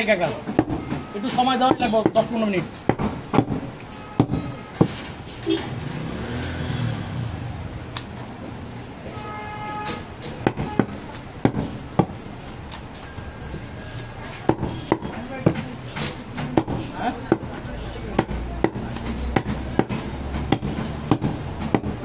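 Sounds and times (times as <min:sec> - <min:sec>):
background din: 0:00.0 - 0:06.1, 0:08.3 - 0:22.0.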